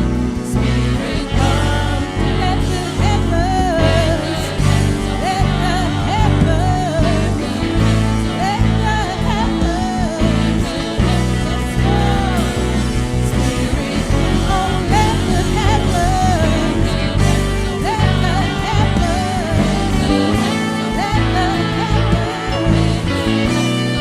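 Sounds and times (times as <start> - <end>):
sliding melody line: 0.0 - 24.0
sustained bass and chords: 0.0 - 24.0
worship band playing: 0.0 - 24.0.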